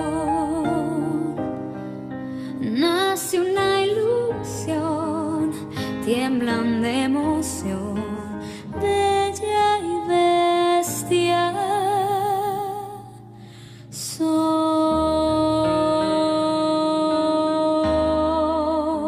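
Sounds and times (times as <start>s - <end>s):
slow tender ballad music: 0.0s - 19.0s.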